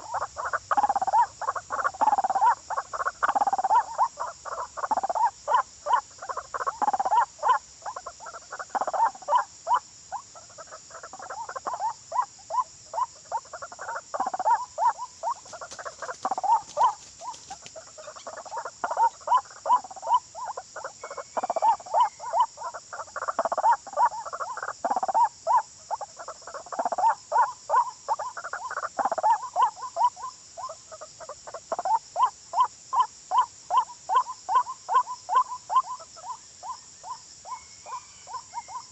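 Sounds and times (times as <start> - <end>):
high drone of insects: 0.0 - 38.9
waterhen croaking calls: 0.0 - 38.9.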